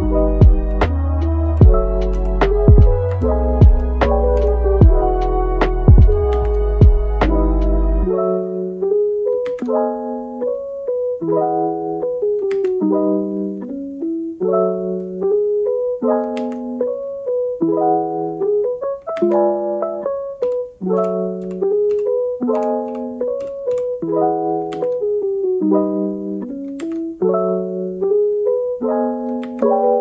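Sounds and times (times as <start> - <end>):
soft piano chords: 0.0 - 30.0.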